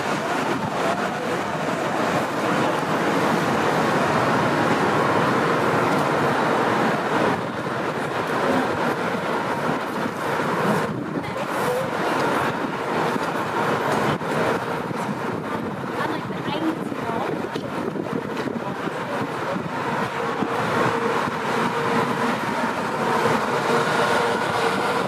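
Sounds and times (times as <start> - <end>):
city street traffic: 0.0 - 25.0.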